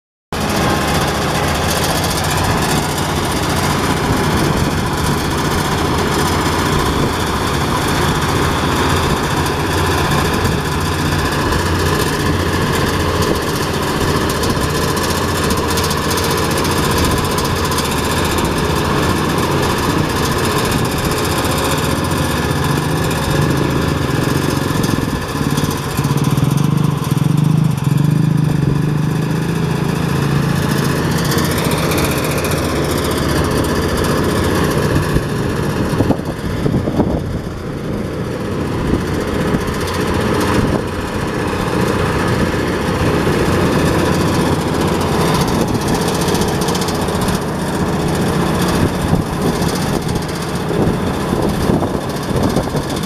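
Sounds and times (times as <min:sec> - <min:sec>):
diesel engine hum: 0:00.3 - 0:53.0
rice thresher running: 0:00.3 - 0:53.0.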